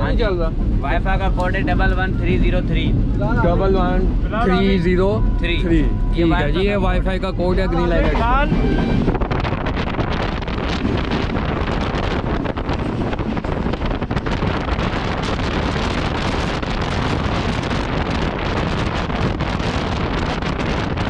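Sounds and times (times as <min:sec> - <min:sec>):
train rail and wind noise: 0:00.0 - 0:21.0
wind buffeting microphone: 0:00.0 - 0:21.0.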